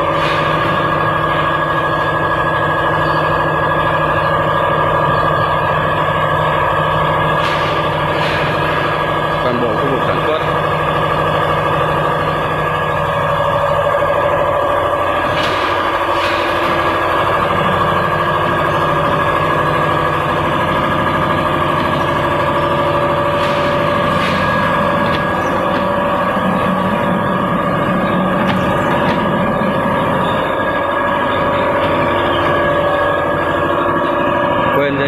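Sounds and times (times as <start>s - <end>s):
machinery humming: 0.0s - 35.0s.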